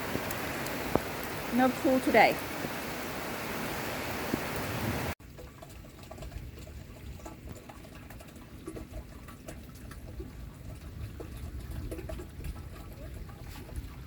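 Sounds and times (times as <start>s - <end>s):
rainwater trickling and dripping: 0.0s - 14.0s.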